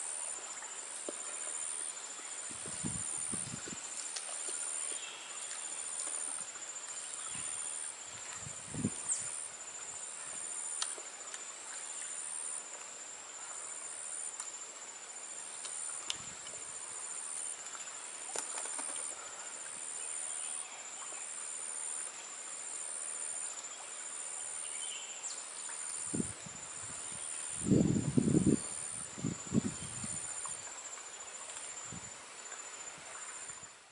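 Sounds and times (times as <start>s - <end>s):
insects trilling: 0.0s - 33.9s
pulsing insect chorus: 0.0s - 33.9s.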